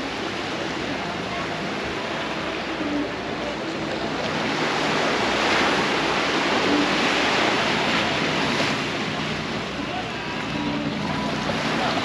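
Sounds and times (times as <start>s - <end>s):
sea waves washing onto beach: 0.0s - 12.0s.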